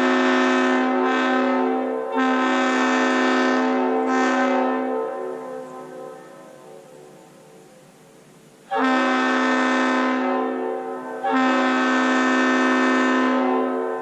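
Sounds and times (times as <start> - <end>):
horn echo: 0.0 - 7.2, 8.7 - 14.0
locomotive air horn blasts: 0.0 - 7.2, 8.7 - 14.0.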